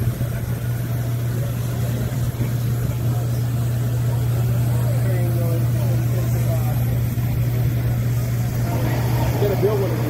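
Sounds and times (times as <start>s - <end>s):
faint crowd voices: 0.0s - 10.0s
low machinery hum: 0.0s - 10.0s.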